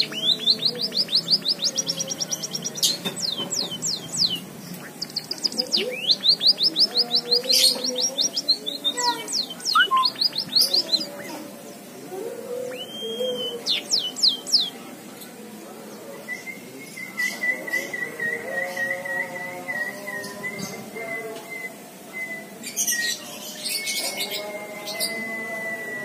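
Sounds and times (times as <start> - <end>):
bird singing chirps and trills: 0.0 - 15.3, 16.2 - 26.0.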